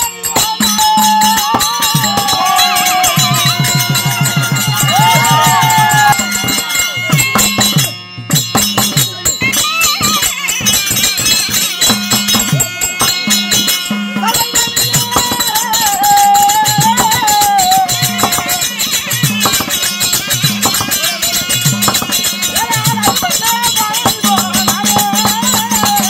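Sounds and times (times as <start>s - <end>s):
double-reed pipe melody: 0.0s - 8.2s, 9.1s - 26.0s
hand drum beat: 0.0s - 26.0s
harmonium held notes: 0.0s - 26.0s.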